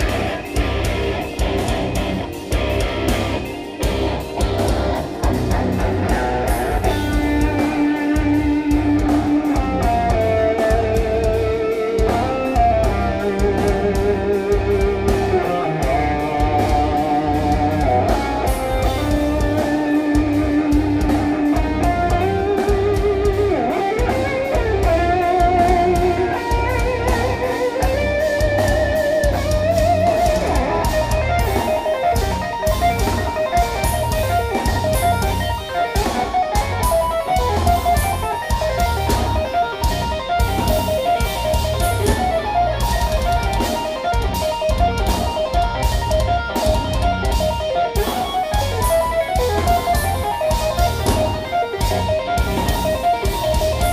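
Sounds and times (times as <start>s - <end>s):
dense drums: 0.0s - 53.9s
electric guitar melodic lead: 0.0s - 53.9s
low guitar and bass: 0.0s - 53.9s.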